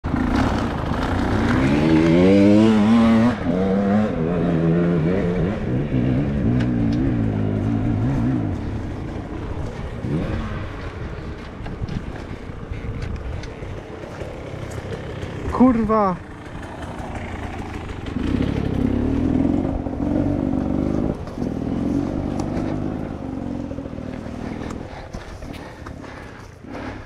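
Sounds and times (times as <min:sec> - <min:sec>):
motorcycle engine revving hard: 0:00.1 - 0:11.0, 0:14.1 - 0:25.0.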